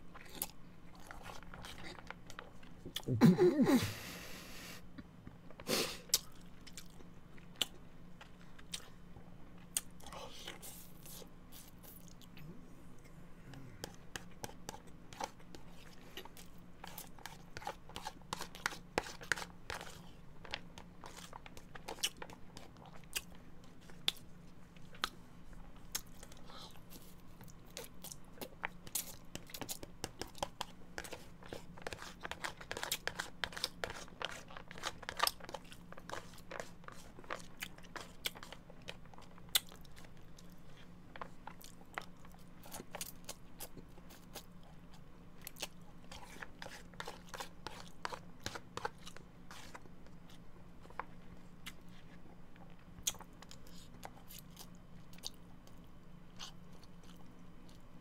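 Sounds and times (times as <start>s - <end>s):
chewing: 0.1s - 3.1s, 6.1s - 9.0s, 9.6s - 57.8s.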